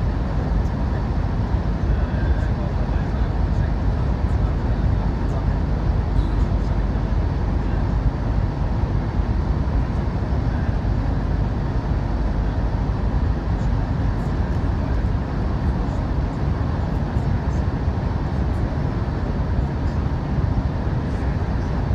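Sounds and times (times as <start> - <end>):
train running rumble: 0.0 - 21.9.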